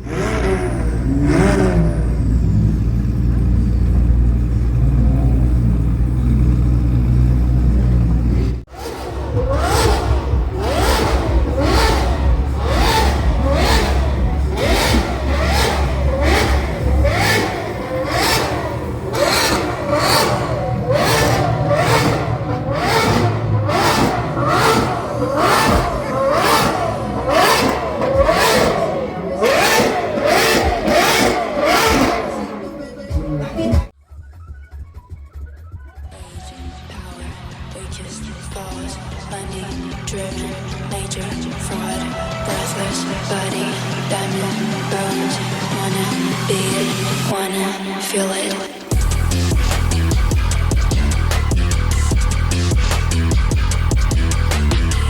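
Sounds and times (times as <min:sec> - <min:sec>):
car engine revving with cracks: 0:00.0 - 0:34.0, 0:36.2 - 0:55.0
car engine rumbling: 0:00.0 - 0:34.0, 0:36.2 - 0:55.0.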